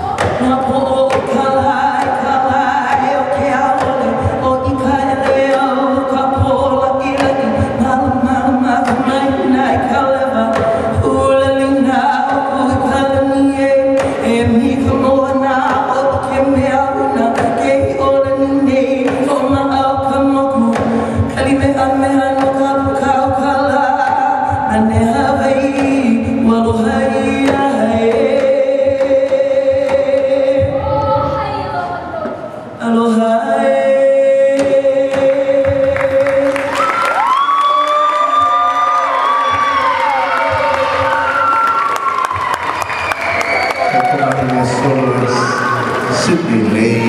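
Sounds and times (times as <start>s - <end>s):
gourd drum beats: 0.0s - 32.8s, 34.4s - 47.0s.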